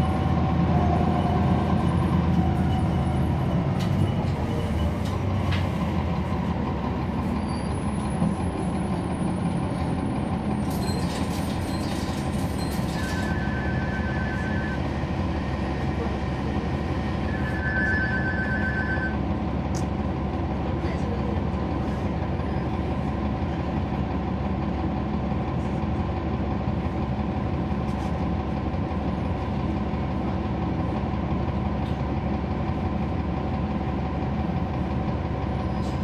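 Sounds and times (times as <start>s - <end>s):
bus diesel engine running: 0.0s - 36.0s
road noise: 0.0s - 36.0s.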